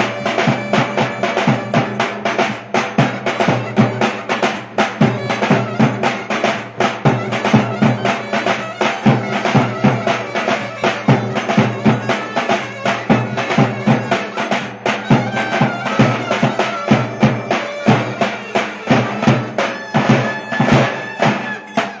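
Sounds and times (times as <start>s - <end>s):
fast drum beat: 0.0s - 22.0s
reedy wind melody: 0.0s - 22.0s.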